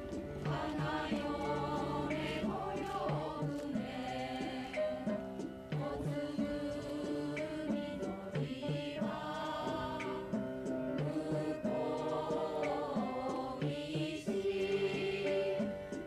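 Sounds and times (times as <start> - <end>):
women's choir singing: 0.0 - 16.0.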